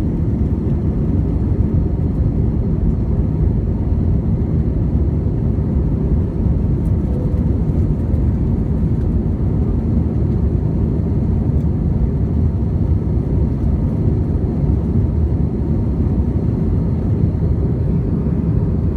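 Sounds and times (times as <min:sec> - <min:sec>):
jet cabin engine rumble: 0:00.0 - 0:18.9.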